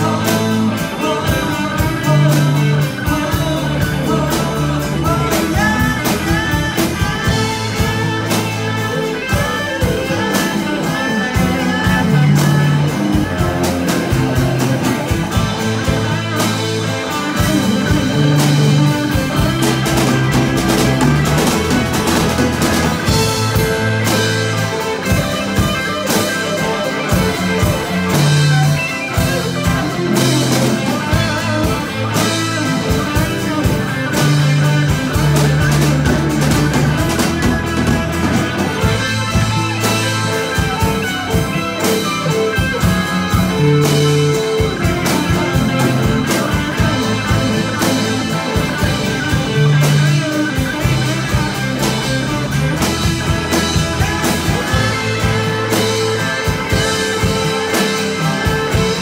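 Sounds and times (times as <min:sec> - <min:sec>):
rock band playing instrumental: 0:00.0 - 0:59.0.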